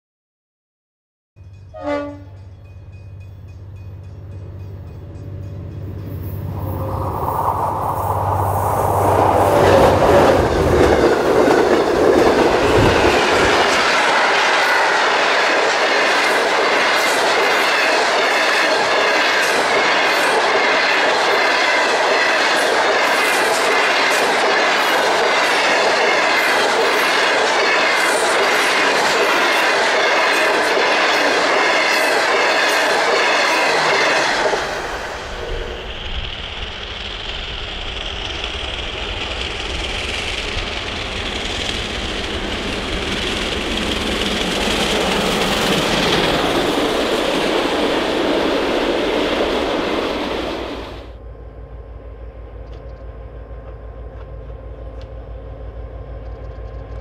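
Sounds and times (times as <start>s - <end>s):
train cars rolling past: 1.4s - 57.0s
locomotive engine drone: 2.5s - 17.0s, 23.0s - 57.0s.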